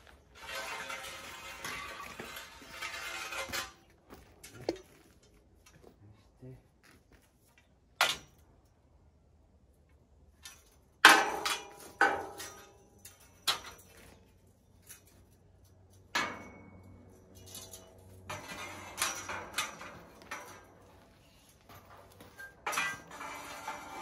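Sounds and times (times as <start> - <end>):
metal scaffolding parts clanking: 0.0 - 5.8, 10.4 - 24.0.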